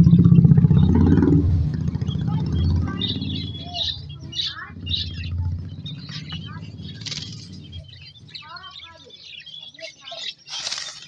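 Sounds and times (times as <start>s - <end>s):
lovebirds chirping: 0.0s - 11.0s
low engine rumble: 0.0s - 11.0s.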